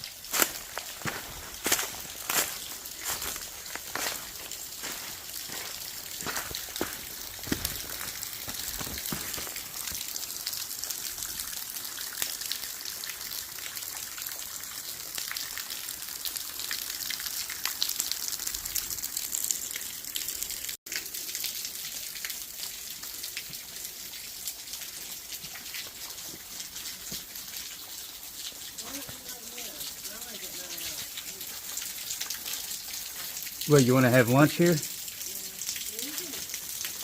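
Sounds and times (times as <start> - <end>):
waterfall splashing into creek: 0.0 - 37.0.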